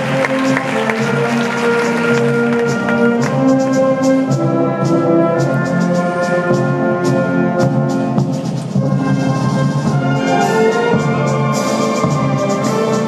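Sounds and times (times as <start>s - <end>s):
brass and woodwind chords: 0.0s - 13.0s
percussion strokes: 0.0s - 13.0s.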